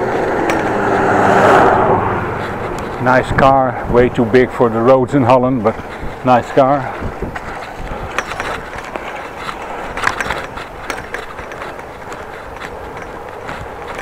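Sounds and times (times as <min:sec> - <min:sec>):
bicycle clicks and rattles: 0:00.0 - 0:00.8, 0:02.4 - 0:14.0
bicycle road noise: 0:00.0 - 0:14.0.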